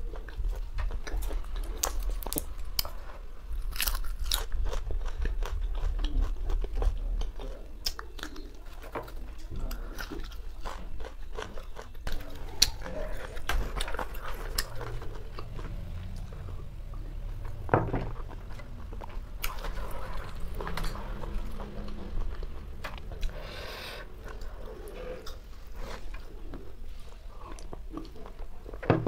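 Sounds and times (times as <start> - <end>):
wet chewing and smacking: 0.0 - 23.5.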